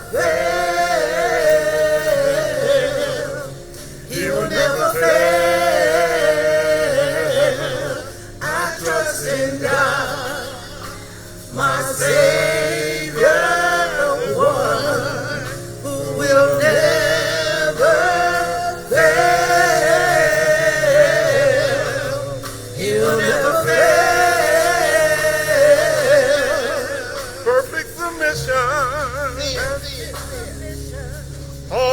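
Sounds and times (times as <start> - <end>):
choir singing gospel: 0.0 - 31.9
organ accompaniment: 0.0 - 31.9.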